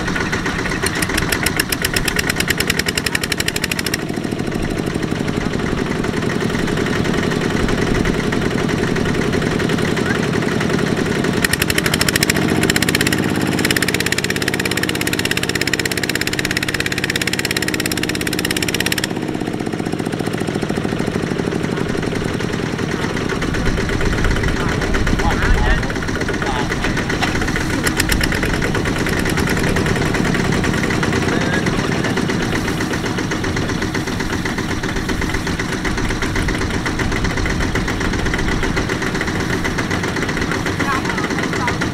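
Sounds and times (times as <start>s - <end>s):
diesel engine under heavy load: 0.0s - 41.9s.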